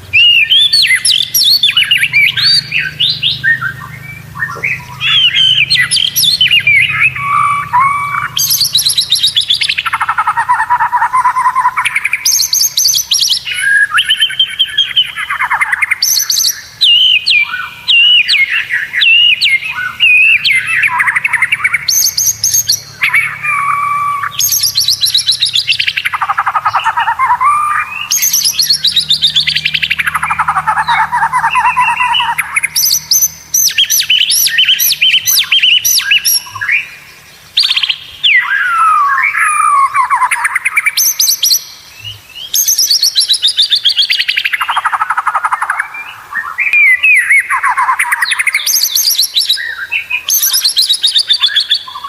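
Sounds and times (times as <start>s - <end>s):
bird singing trilled phrases: 0.0s - 52.0s.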